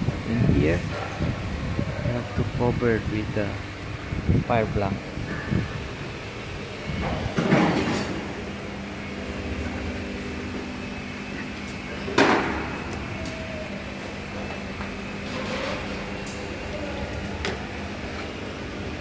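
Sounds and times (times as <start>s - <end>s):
steady workshop hum: 0.0s - 19.0s.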